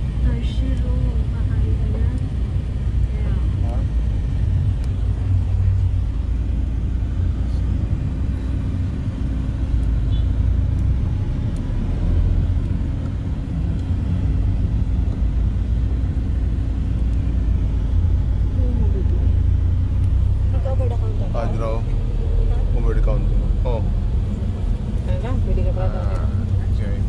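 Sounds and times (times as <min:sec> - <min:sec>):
car cabin engine and road rumble: 0:00.0 - 0:27.0.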